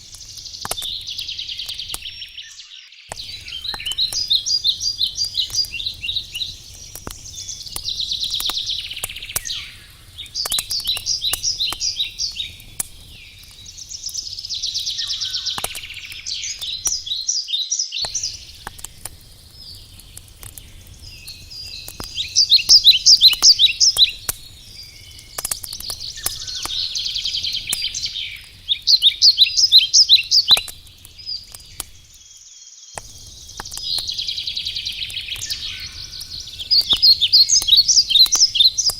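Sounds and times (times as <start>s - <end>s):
campfire crackling: 0.0s - 38.9s
songbird trilling: 0.5s - 6.6s, 7.2s - 12.6s, 13.2s - 18.6s, 21.1s - 30.7s, 33.8s - 38.9s.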